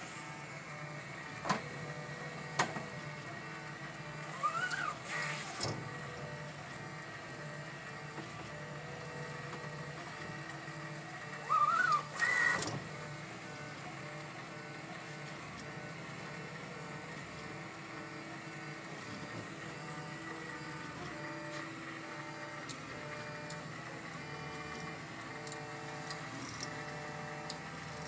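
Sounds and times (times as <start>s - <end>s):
printer motors and fans humming: 0.0s - 28.0s
rising motor whine: 0.0s - 28.0s.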